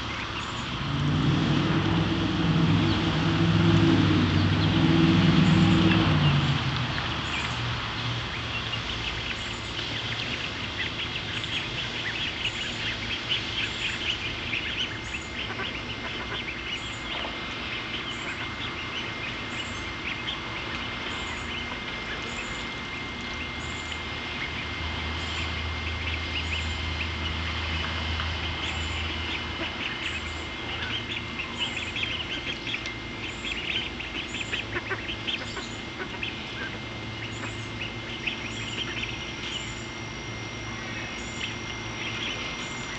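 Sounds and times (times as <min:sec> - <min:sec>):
ducklings peeping: 0:00.0 - 0:42.9.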